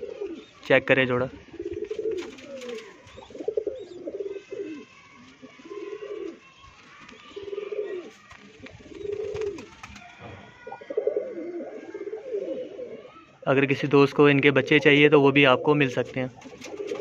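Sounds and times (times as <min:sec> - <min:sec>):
pigeons cooing: 0:00.0 - 0:13.3, 0:14.3 - 0:17.0.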